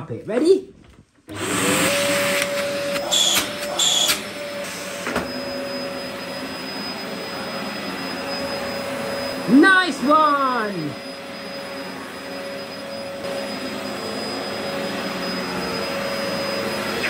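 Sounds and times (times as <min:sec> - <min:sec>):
vacuum cleaner running: 0:01.3 - 0:17.0.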